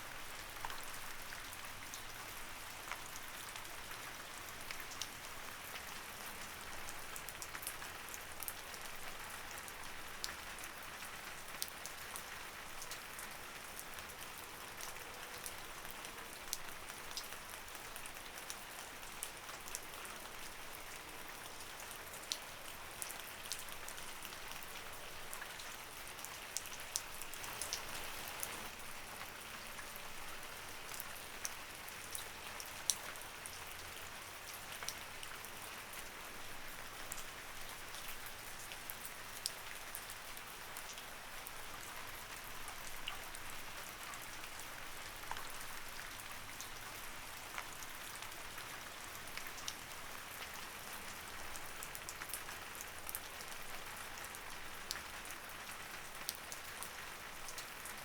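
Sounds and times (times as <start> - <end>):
light rain falling: 0.0 - 58.0
raindrops ticking on a surface: 0.1 - 58.0.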